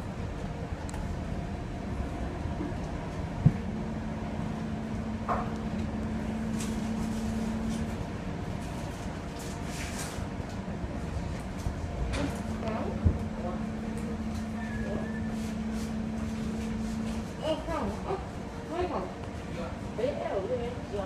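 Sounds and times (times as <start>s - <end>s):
steady low hum: 0.0s - 21.0s
train rumbling: 0.0s - 21.0s.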